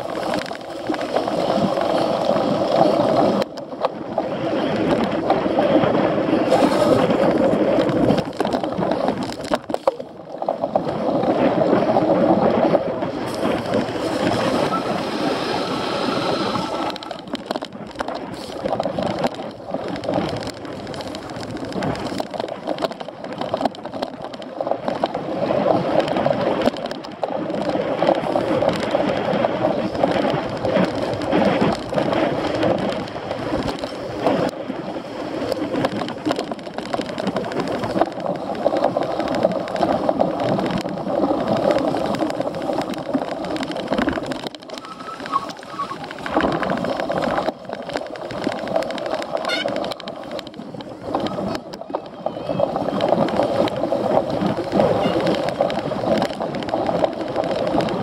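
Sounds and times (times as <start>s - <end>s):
bike tyres rushing over rough ground: 0.0s - 58.0s.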